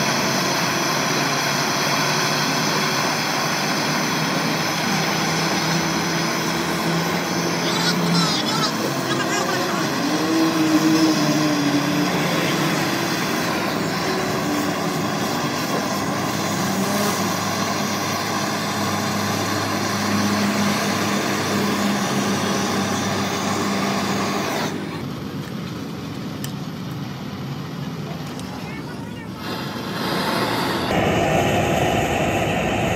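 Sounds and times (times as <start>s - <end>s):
mechanical drone: 0.0s - 25.2s, 28.2s - 32.9s.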